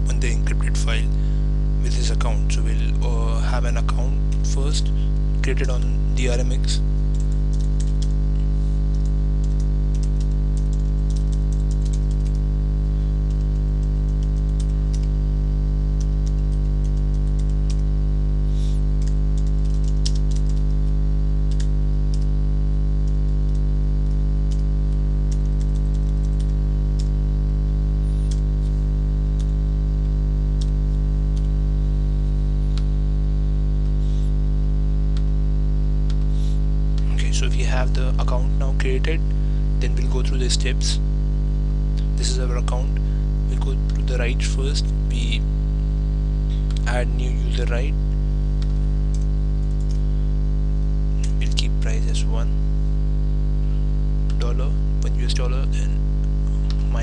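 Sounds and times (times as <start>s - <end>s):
loud electrical mains hum: 0.0s - 57.0s.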